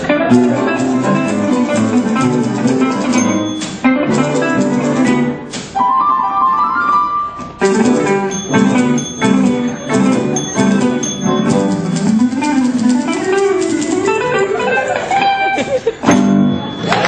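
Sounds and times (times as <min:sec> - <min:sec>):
instrumental ensemble playing upbeat: 0:00.0 - 0:17.0.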